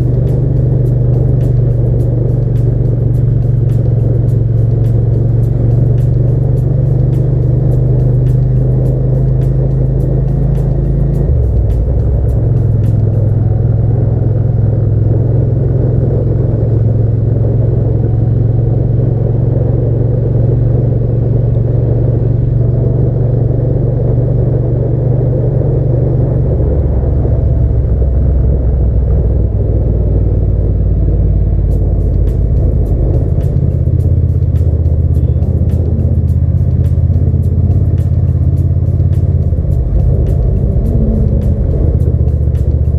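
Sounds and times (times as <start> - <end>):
motorcycle engine cruising: 0.0 - 42.9
wind and road noise: 0.0 - 42.9.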